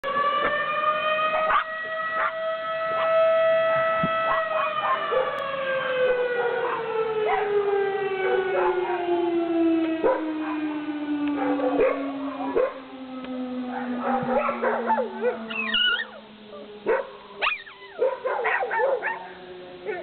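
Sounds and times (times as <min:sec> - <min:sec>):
warning siren winding down: 0:00.0 - 0:20.0
dogs barking and howling: 0:01.2 - 0:20.0.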